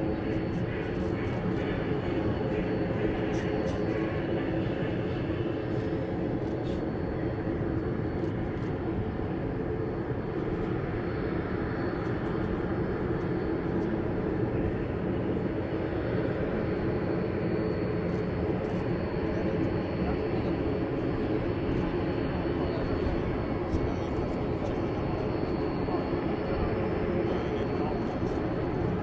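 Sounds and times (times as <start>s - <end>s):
propeller engines droning: 0.0s - 29.0s.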